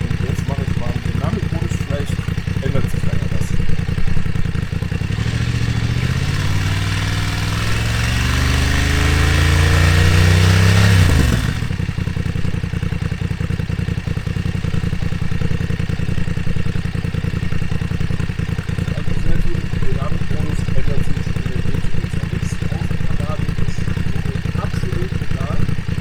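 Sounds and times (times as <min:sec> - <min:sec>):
motorcycle engine idling: 0:00.0 - 0:26.0
motorcycle engine revving: 0:00.0 - 0:26.0.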